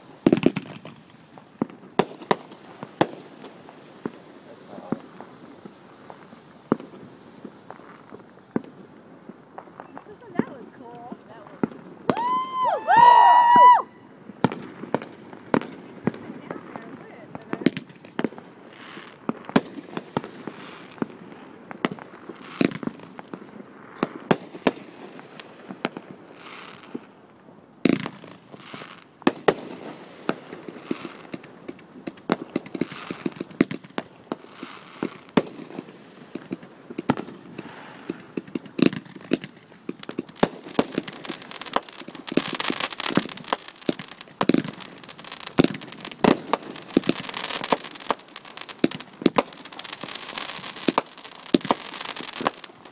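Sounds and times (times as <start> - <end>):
fireworks bangs: 0.0 - 52.9
fireworks crackling: 0.0 - 52.9.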